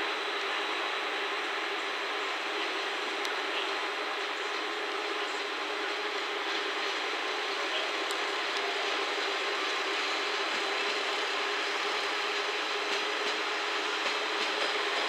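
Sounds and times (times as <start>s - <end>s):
train wheels on rail: 0.0s - 15.0s.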